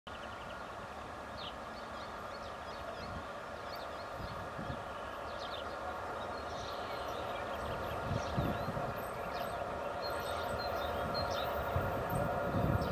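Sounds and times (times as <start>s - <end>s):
diesel locomotive engine drone: 0.1s - 12.9s
birds chirping: 1.3s - 12.9s.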